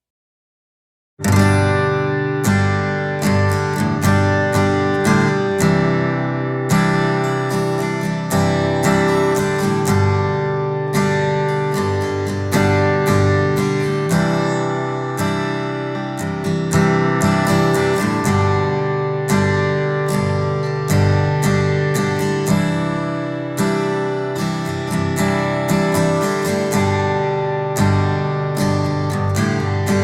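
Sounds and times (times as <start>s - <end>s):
strummed acoustic guitar: 1.2s - 30.0s.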